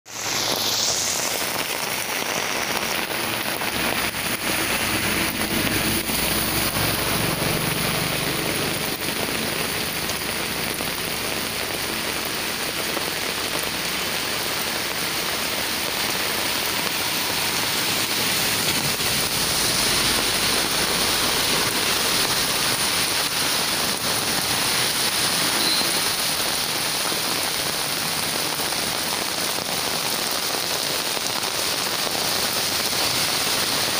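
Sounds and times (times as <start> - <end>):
heavy rain falling: 0.1 - 33.9
runoff water rushing: 0.1 - 33.9.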